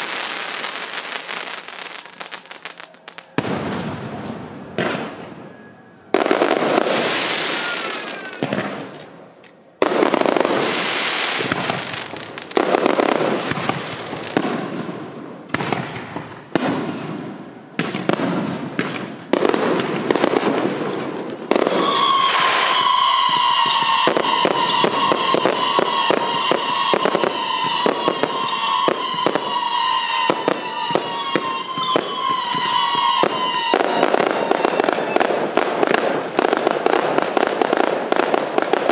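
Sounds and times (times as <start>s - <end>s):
fireworks booming and crackling: 0.0s - 38.9s
rapid fireworks pops: 6.2s - 38.9s.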